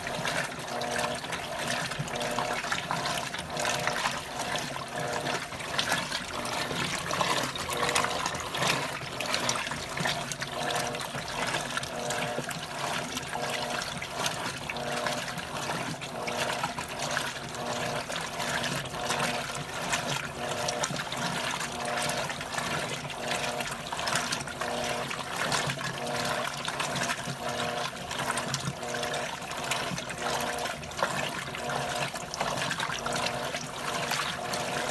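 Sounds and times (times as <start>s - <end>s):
washing machine motor hum: 0.0s - 34.9s
water sloshing: 0.0s - 34.9s.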